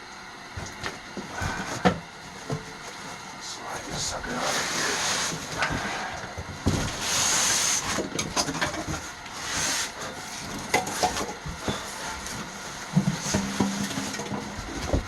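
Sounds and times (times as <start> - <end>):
cardboard and plastic rustling: 0.6 - 15.0.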